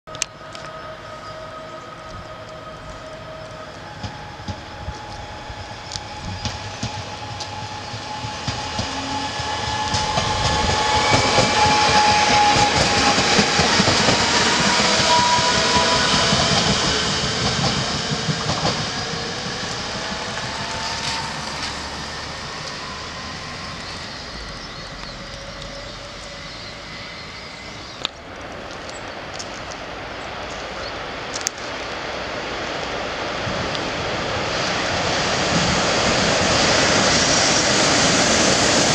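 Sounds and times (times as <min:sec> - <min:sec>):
train wheels rushing on rail: 0:00.1 - 0:38.9
train whine shifting in pitch: 0:00.1 - 0:38.9.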